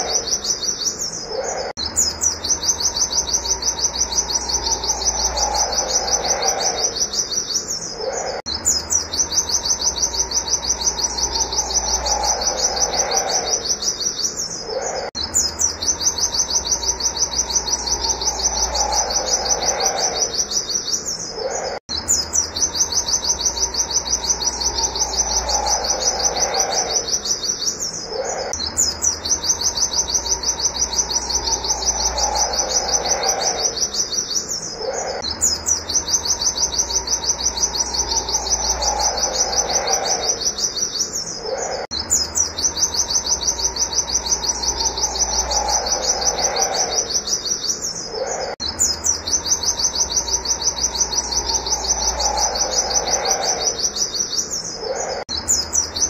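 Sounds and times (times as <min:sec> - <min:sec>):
bird rapid high-pitched call: 0:00.0 - 0:56.0
lower bird call: 0:00.0 - 0:56.0.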